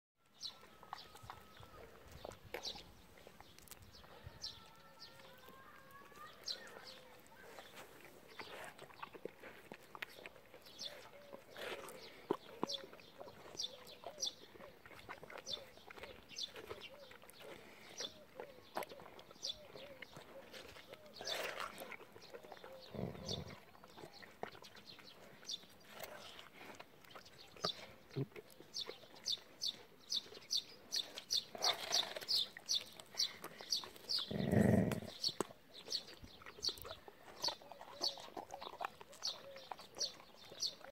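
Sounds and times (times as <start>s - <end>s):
dog chewing watermelon: 0.2s - 40.9s
birds chirping: 0.3s - 40.9s.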